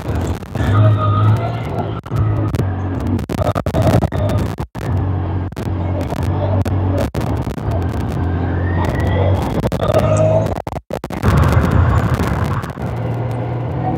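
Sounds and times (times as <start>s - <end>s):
engine running at steady revs: 0.0s - 3.4s, 4.2s - 9.4s, 11.2s - 13.9s.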